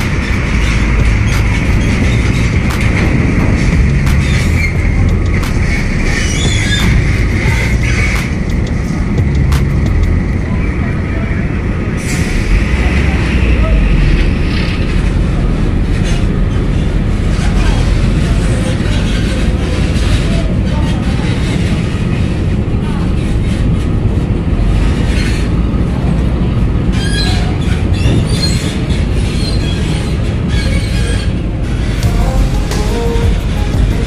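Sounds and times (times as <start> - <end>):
heavy truck rumbling past: 0.0 - 26.9, 31.5 - 34.0.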